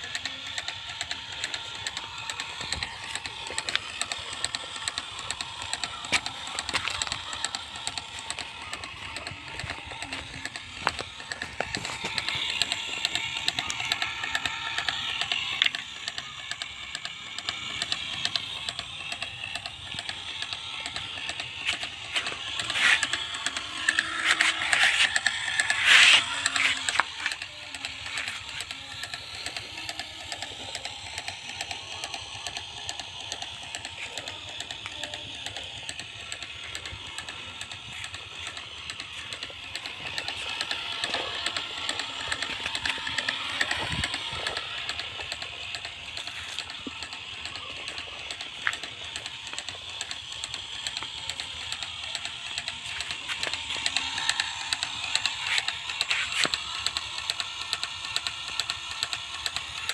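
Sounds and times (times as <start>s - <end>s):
gear motor clicking rattle: 0.0s - 59.9s.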